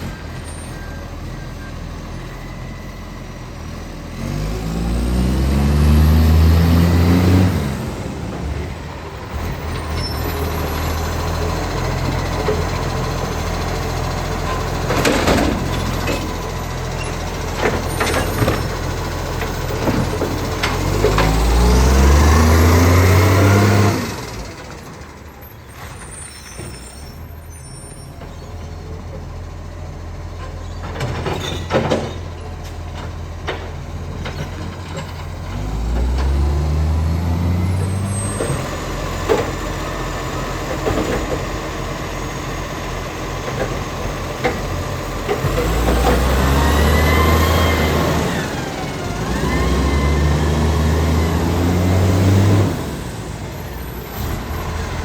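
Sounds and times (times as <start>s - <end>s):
garbage truck engine revving: 0.0s - 27.6s, 28.3s - 55.0s.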